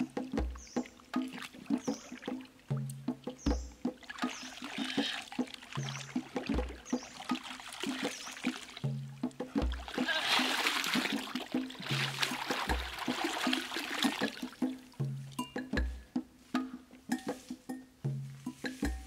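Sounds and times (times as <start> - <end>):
water splashing and dripping: 0.0 - 16.0
background music with beat: 0.0 - 19.0.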